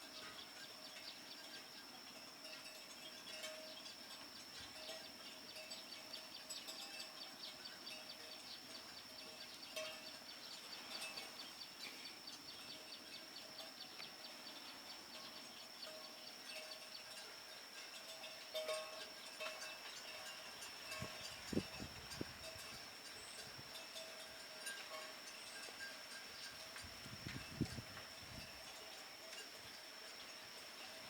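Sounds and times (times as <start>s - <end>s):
high-pitched insect drone: 0.0s - 31.0s
small chirps and ticks: 0.0s - 31.0s.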